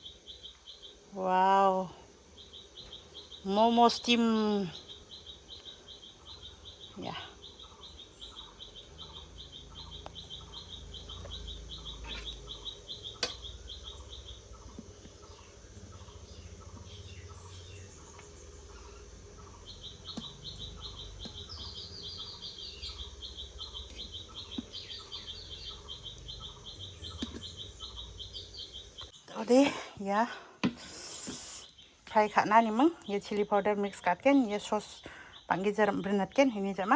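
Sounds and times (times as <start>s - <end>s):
insects chirping in fast pulses: 0.0s - 36.9s.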